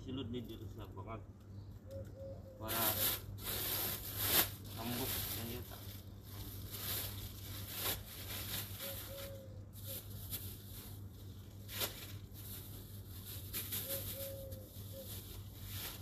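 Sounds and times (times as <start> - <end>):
steady low hum: 0.0 - 16.0
plastic bags rustling: 2.7 - 16.0.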